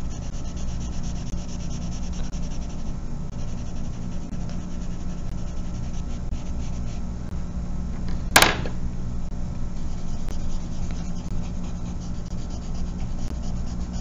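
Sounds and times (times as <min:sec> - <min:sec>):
pencil rubbing on paper: 0:00.0 - 0:07.0, 0:09.8 - 0:14.0
steady low hum: 0:00.0 - 0:14.0.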